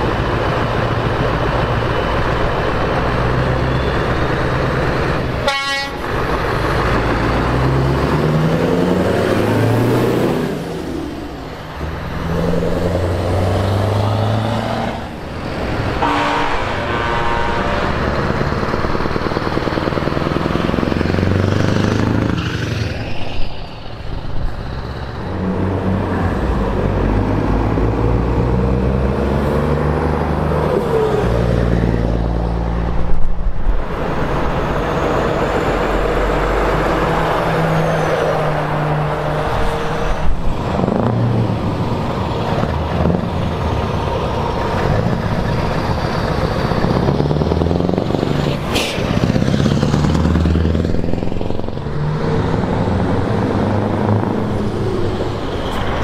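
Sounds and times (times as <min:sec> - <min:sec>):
diesel trucks driving past: 0:00.0 - 0:56.0.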